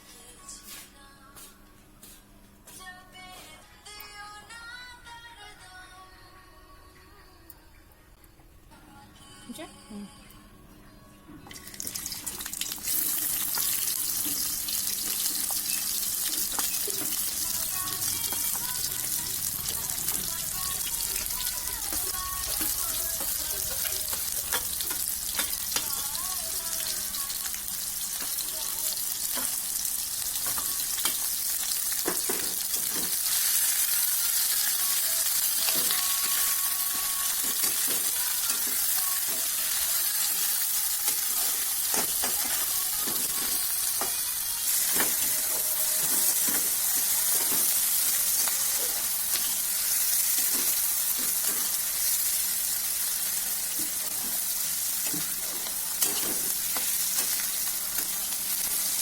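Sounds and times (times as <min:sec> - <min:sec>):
food sizzling in oil: 0:11.6 - 0:59.0.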